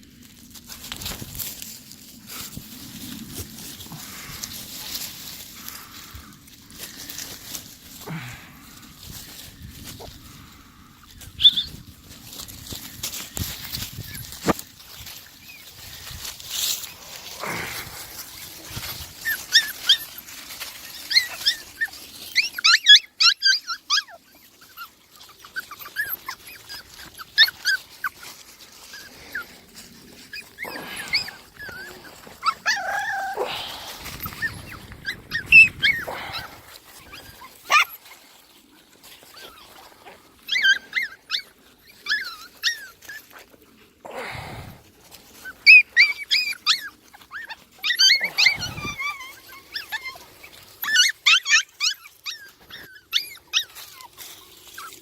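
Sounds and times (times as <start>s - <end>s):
low shuffling noise: 0.0s - 22.7s, 24.4s - 55.0s
puppies squeaking and whimpering: 8.8s - 43.9s, 45.1s - 55.0s.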